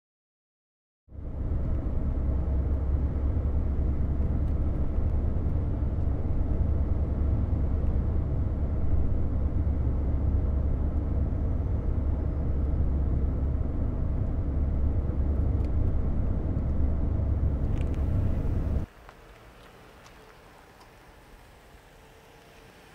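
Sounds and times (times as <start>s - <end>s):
car engine and road noise: 1.1s - 22.9s.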